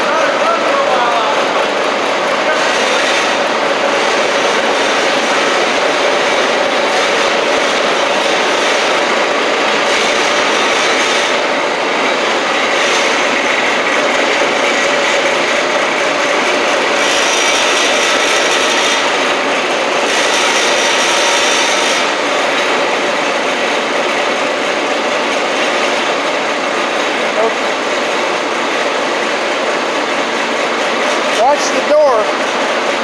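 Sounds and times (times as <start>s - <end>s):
diesel engine running loud: 0.0s - 33.0s.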